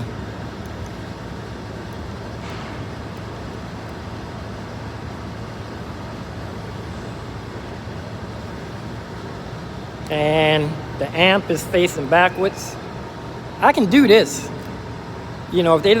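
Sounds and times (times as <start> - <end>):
low even urban hum: 0.0 - 16.0.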